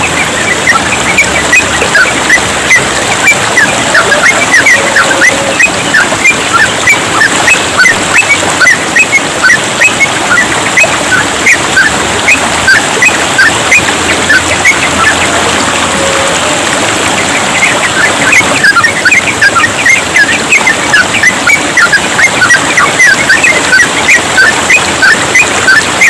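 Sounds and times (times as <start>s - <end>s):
birds chattering calls: 0.0s - 26.0s
trickling water: 0.0s - 26.0s.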